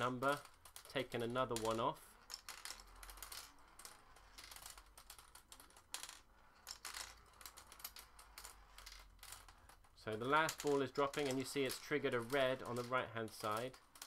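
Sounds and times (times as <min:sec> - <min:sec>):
balls dropping onto levers: 0:00.0 - 0:14.0
marbles clicking and clattering: 0:00.0 - 0:14.0
plastic bits flipping: 0:00.0 - 0:14.0.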